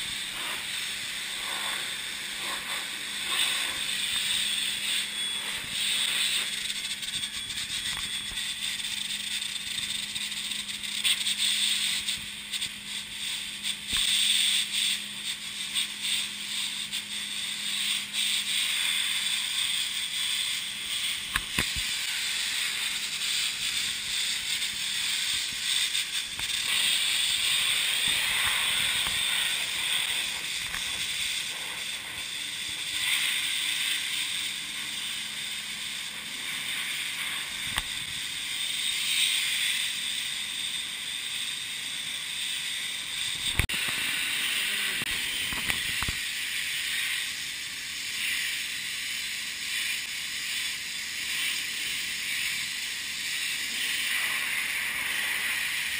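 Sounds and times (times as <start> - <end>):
pressure washer hissing spray: 0.0 - 55.9.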